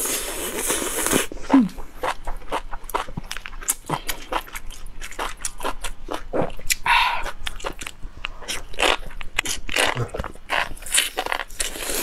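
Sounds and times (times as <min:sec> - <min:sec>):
person eating crunchy mushrooms: 0:00.0 - 0:12.0.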